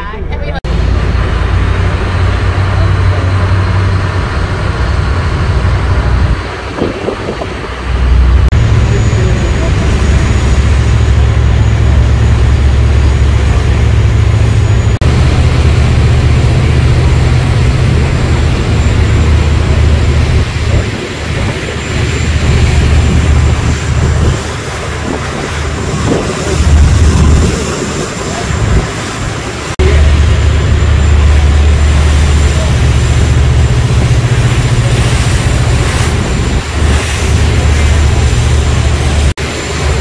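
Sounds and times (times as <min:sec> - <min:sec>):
boat engines droning: 0:00.0 - 0:40.0.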